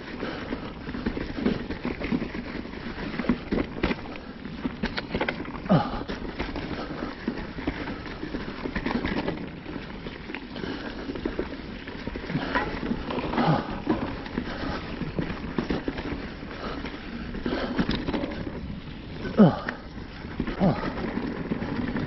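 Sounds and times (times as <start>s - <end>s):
bike chain and frame rattling: 0.0s - 22.0s
bike tyres knocking over rocks: 0.2s - 22.0s.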